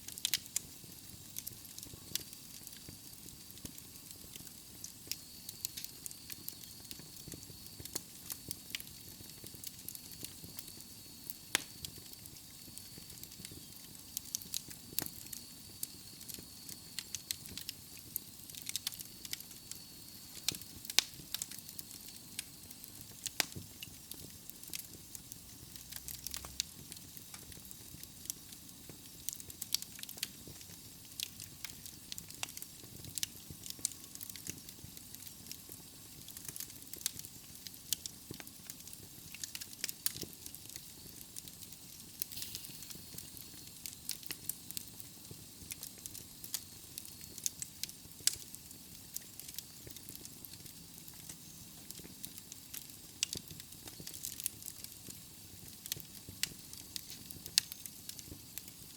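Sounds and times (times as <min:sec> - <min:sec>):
logs crackling in a fireplace: 0:00.0 - 0:58.9.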